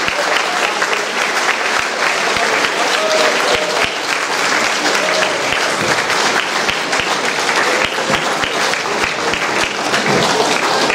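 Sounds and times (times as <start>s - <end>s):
audience applause: 0.0s - 10.9s.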